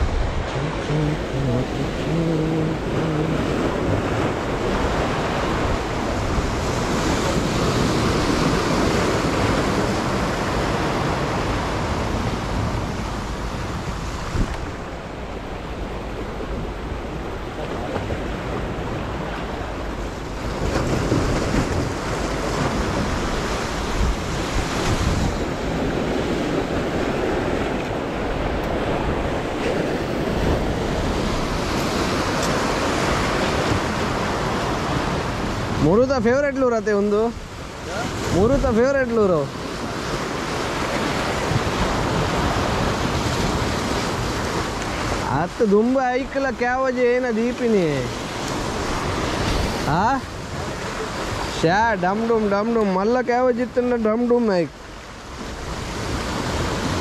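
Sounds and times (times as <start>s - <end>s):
waves breaking on rocks: 0.0s - 57.0s.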